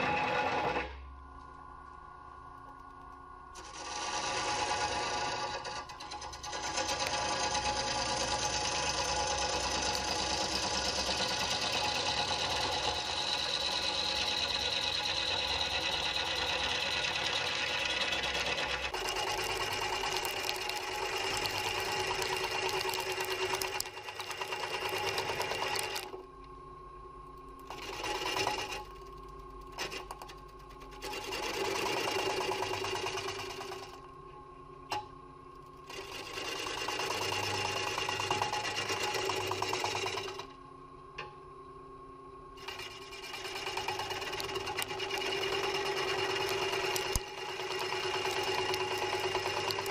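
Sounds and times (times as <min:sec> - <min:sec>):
lathe running hum: 0:00.0 - 0:35.1, 0:35.7 - 0:41.0, 0:42.1 - 0:49.9.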